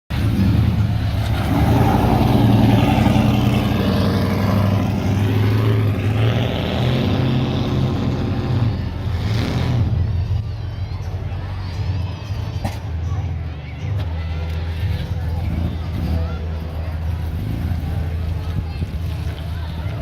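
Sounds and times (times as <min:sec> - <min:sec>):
car engine driving away: 0:00.1 - 0:12.9, 0:14.0 - 0:20.0.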